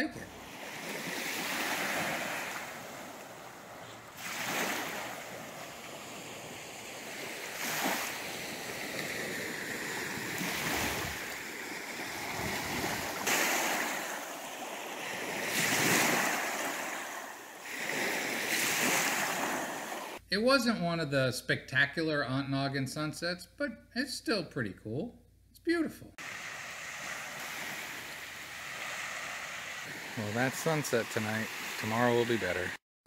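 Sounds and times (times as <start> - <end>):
lake waves washing on beach: 0.0 - 20.2, 26.2 - 32.8.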